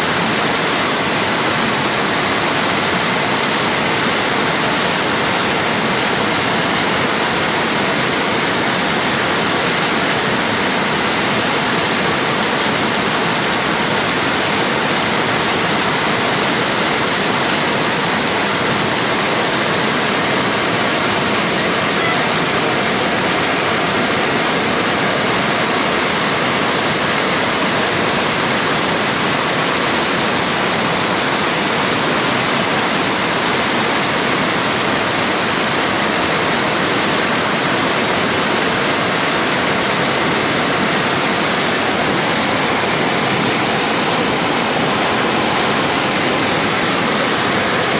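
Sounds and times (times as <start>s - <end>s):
floodwater roaring: 0.0s - 47.9s.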